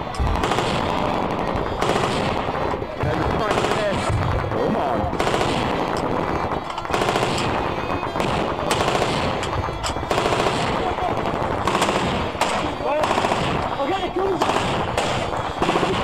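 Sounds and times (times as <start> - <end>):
loud gunshot cracks: 0.1 - 13.8, 14.4 - 16.0
automatic gunfire: 0.2 - 16.0.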